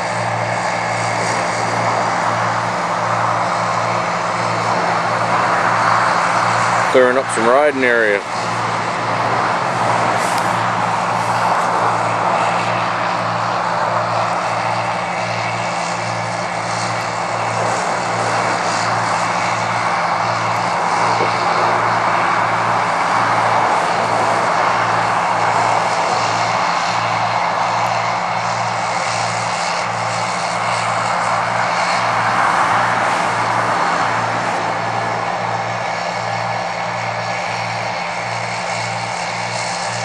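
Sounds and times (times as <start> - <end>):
combine harvester engine drone: 0.0 - 40.0
pulsing low hum: 0.0 - 40.0.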